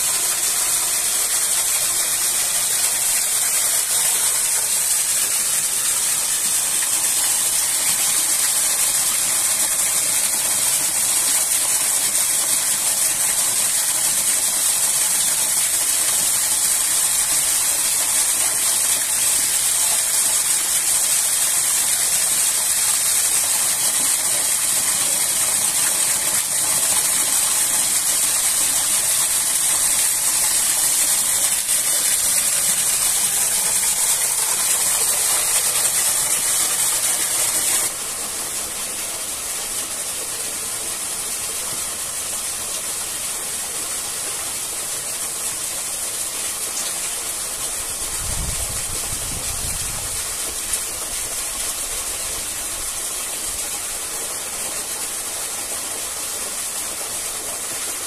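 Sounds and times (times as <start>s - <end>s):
waterfall rushing: 0.0s - 46.6s.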